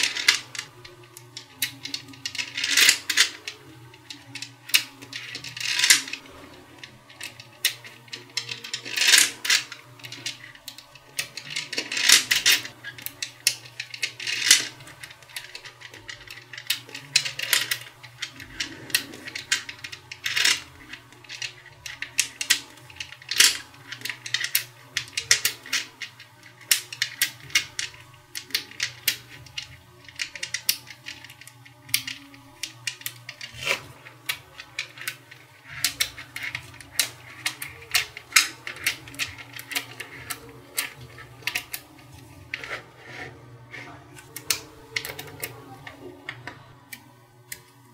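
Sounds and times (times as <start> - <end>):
magnet balls clicking together: 0.0 - 47.9.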